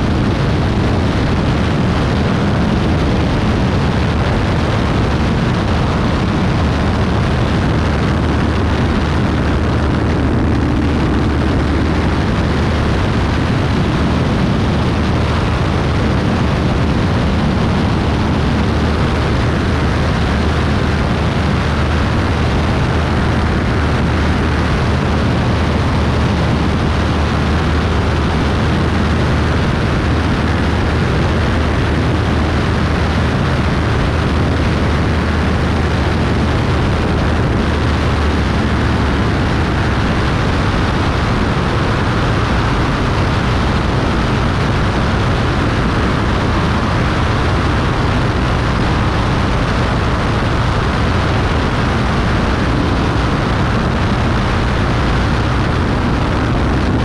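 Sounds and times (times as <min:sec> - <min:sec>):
loud rush of air: 0:00.0 - 0:57.0
propeller plane engine droning: 0:00.0 - 0:57.0.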